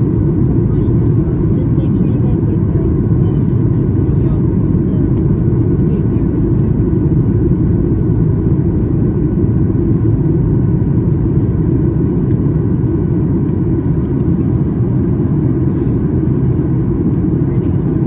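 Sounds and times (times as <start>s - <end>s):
airliner cabin engine rumble: 0.0s - 18.0s.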